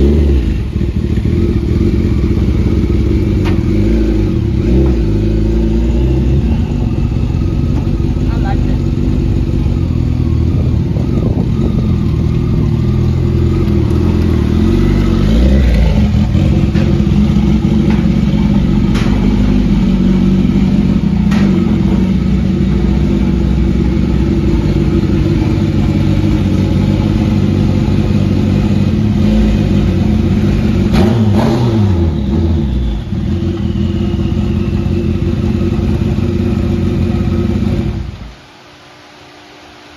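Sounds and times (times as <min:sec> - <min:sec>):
motorcycle engine revving: 0:00.0 - 0:38.4.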